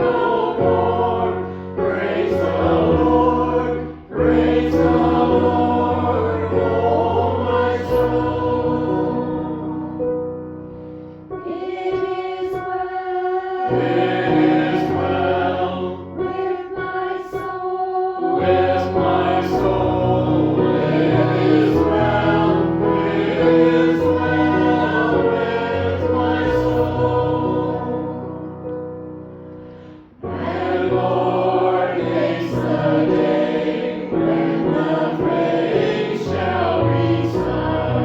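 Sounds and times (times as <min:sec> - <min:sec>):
group singing a hymn: 0:00.0 - 0:28.9, 0:29.7 - 0:38.0.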